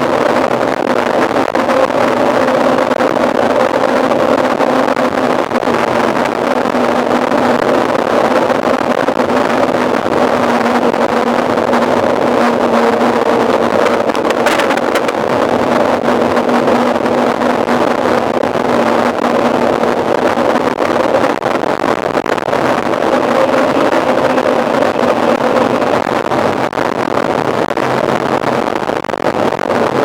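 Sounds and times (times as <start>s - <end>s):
low hum: 0.0s - 27.4s
wind rushing over microphone: 0.0s - 30.0s.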